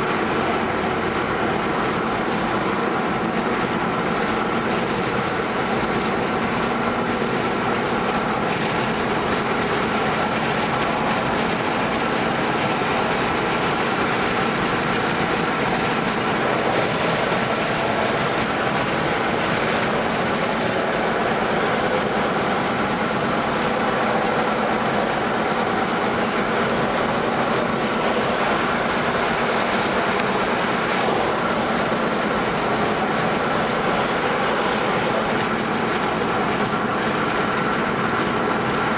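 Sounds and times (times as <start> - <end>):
low engine drone: 0.0 - 38.9
tyre and road rumble: 0.0 - 38.9.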